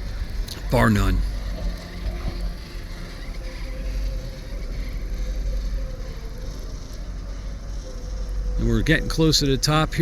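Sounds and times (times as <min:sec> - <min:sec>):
chairlift low rumble: 0:00.0 - 0:10.0
faint steady tones: 0:00.0 - 0:10.0.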